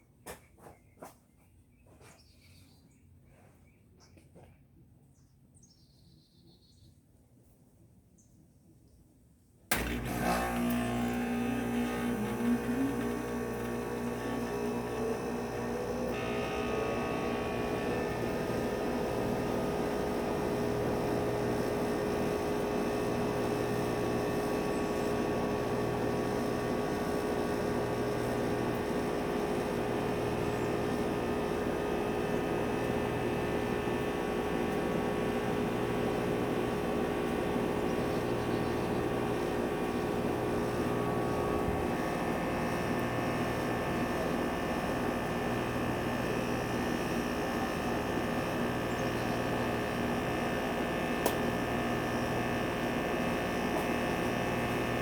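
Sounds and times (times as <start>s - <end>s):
air conditioner unit humming: 9.7s - 55.0s.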